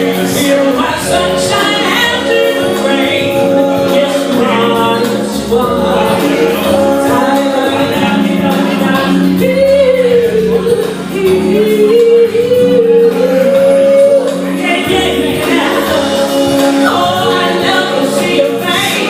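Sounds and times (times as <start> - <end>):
band accompaniment: 0.0 - 19.0
woman singing a soulful ballad: 0.0 - 19.0.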